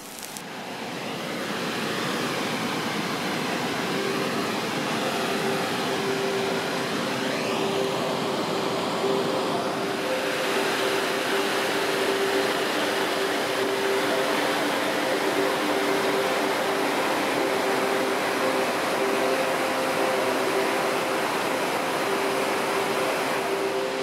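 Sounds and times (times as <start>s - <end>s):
waterfall rushing over rock: 0.0s - 24.0s.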